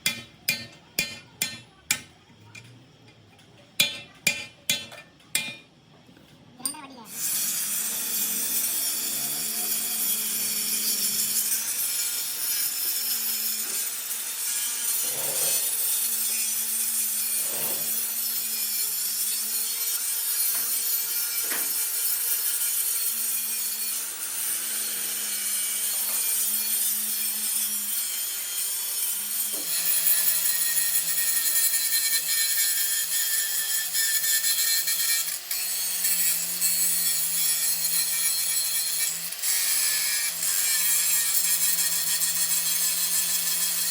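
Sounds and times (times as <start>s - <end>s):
power tool grinding metal: 7.0s - 43.9s.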